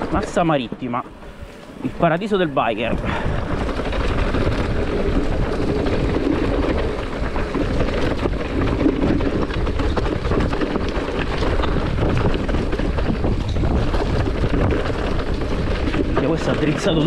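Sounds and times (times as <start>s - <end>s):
bike rattling: 0.0s - 17.0s
tyres crunching over stones: 0.0s - 17.0s
wind on microphone: 0.0s - 17.0s.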